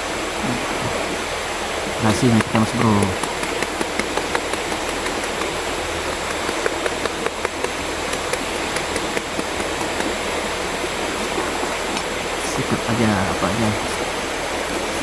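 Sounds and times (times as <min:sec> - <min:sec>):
mountain river rushing: 0:00.0 - 0:15.0.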